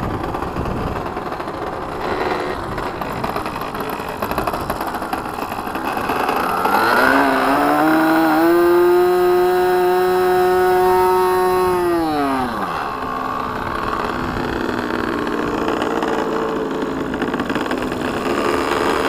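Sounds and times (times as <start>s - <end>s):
model plane engine revving: 0.0s - 19.0s.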